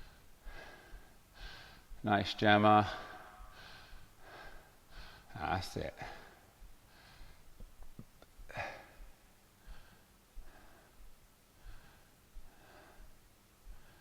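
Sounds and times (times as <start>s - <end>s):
person breathing hard: 0.0s - 2.0s, 2.8s - 5.4s, 6.0s - 7.7s, 8.4s - 14.0s.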